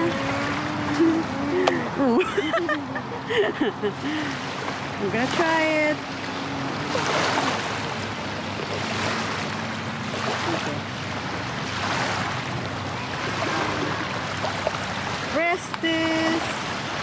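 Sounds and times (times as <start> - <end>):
small waves lapping on sand: 0.0 - 17.0.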